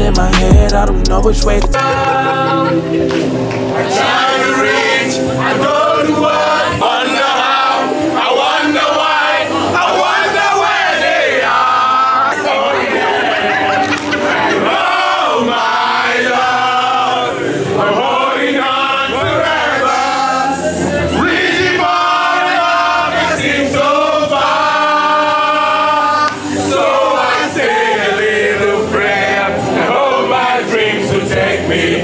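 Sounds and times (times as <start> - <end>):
group singing in chorus: 0.0 - 32.0.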